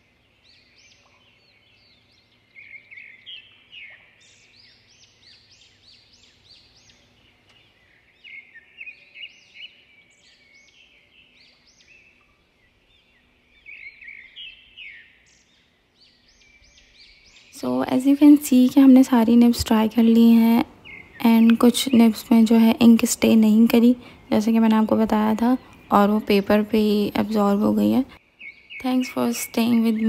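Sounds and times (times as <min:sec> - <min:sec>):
faint background hum: 0:00.0 - 0:30.0
small birds chirping: 0:00.0 - 0:30.0.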